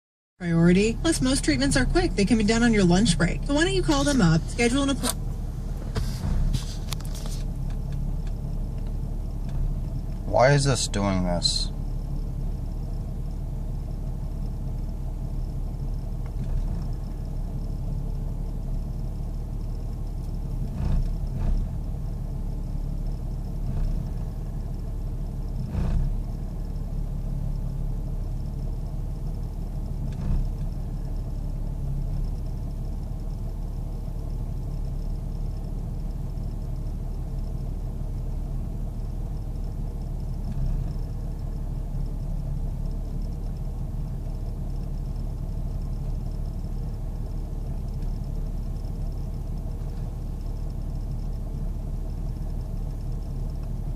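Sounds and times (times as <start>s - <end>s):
car engine idling roughly: 0.5s - 53.9s.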